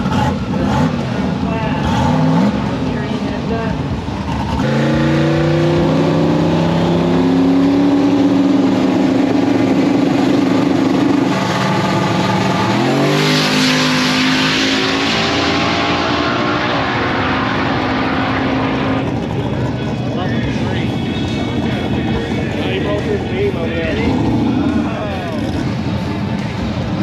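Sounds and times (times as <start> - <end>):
drag car engines revving: 0.0 - 27.0.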